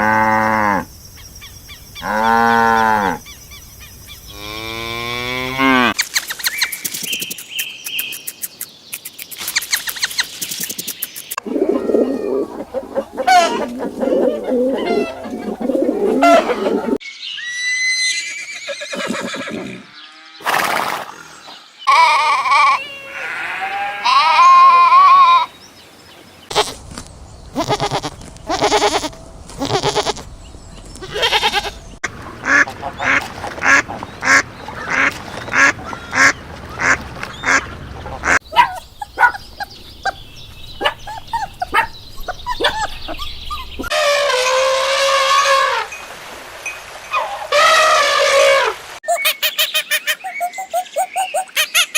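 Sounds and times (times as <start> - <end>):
animal and bird calls: 0.4 - 45.9, 47.1 - 51.9.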